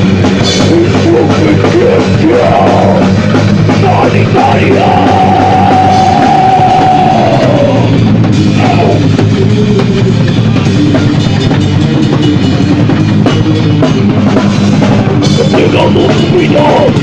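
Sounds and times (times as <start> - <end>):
drum kit pounding: 0.0 - 17.0
heavy rock music: 0.0 - 17.0.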